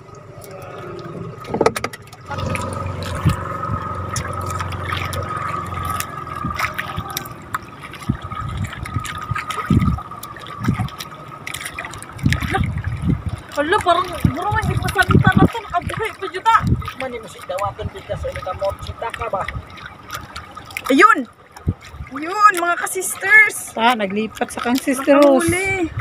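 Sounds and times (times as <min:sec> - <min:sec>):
water trickling and sloshing: 0:00.0 - 0:26.0.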